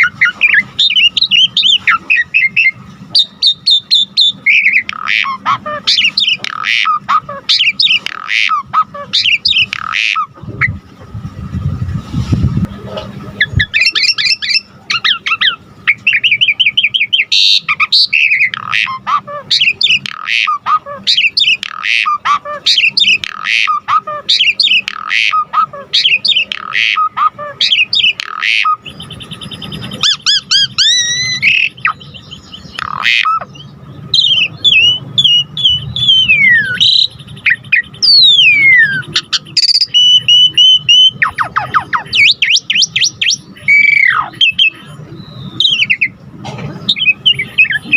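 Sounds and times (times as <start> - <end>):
starling singing: 0.0 - 10.8, 13.3 - 47.9.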